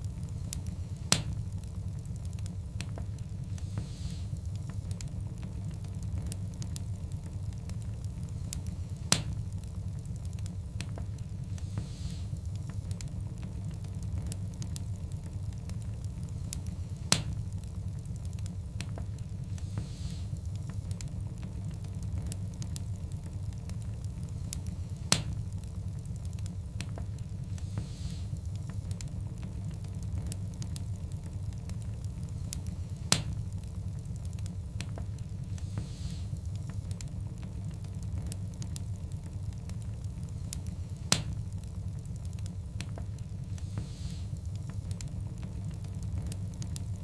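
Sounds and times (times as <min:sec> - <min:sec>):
fire rumbling: 0:00.0 - 0:47.0
wood crackling and popping: 0:00.0 - 0:47.0.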